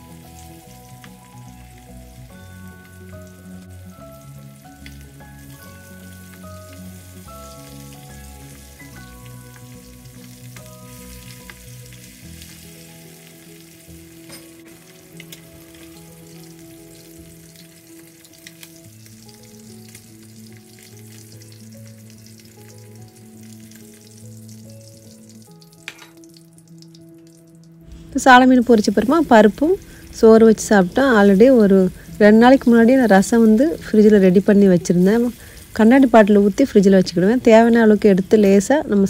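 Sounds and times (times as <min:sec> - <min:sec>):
fish sizzling in hot oil: 0:00.0 - 0:39.0
soft background music: 0:00.0 - 0:39.0.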